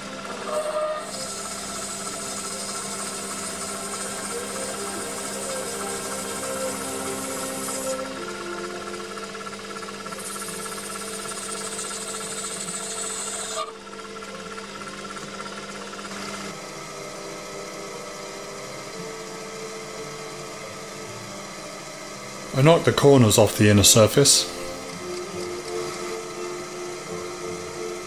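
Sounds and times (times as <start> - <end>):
mini lathe cutting metal: 0.0 - 28.0.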